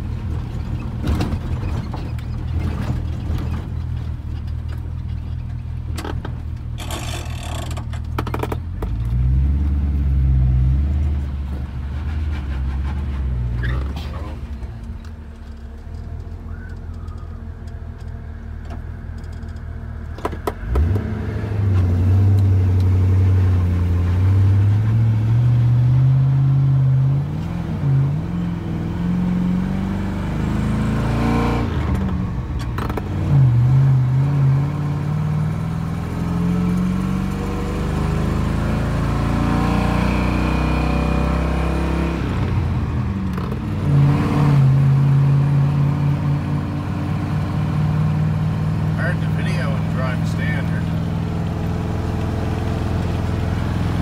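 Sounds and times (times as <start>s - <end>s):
pickup truck engine accelerating: 6.8s - 54.0s.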